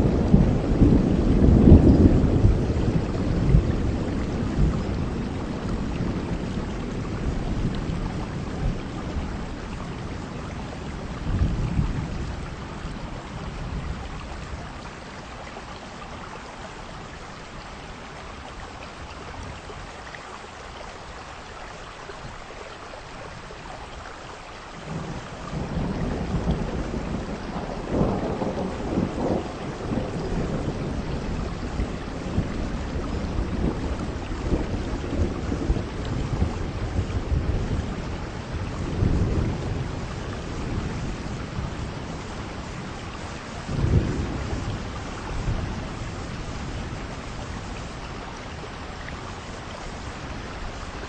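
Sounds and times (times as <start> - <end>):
rolling thunder: 0.0 - 16.1, 24.8 - 51.0
heavy rain: 0.0 - 51.0.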